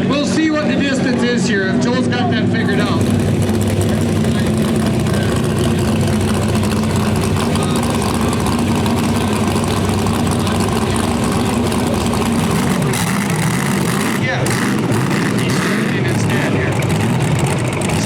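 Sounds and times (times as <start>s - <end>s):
tractor puller engine running loudly: 0.0s - 18.0s.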